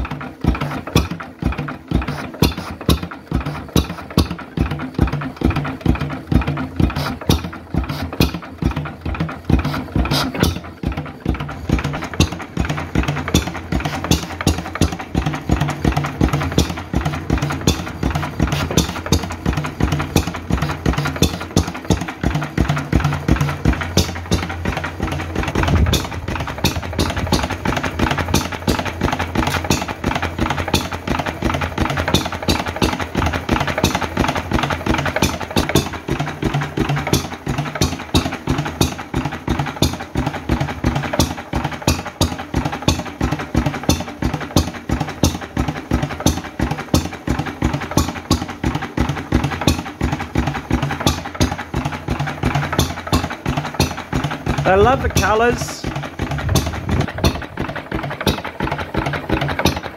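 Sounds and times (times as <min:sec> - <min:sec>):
stationary engine running: 0:00.0 - 0:59.9.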